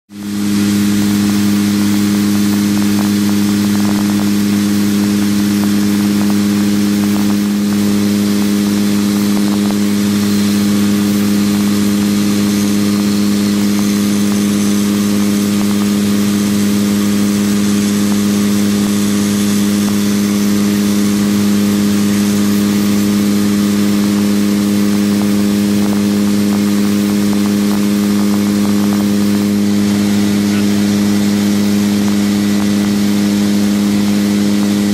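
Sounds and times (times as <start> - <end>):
propeller engines droning: 0.1 - 34.9.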